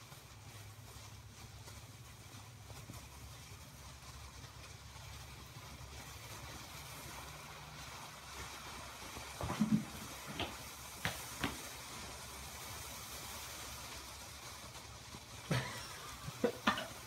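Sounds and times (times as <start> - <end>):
firework crackles: 0.0 - 17.0
firework hissing: 0.0 - 17.0.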